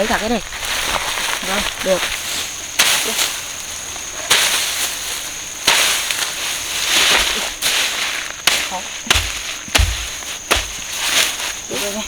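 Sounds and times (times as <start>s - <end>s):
dry rustle: 0.0s - 12.0s.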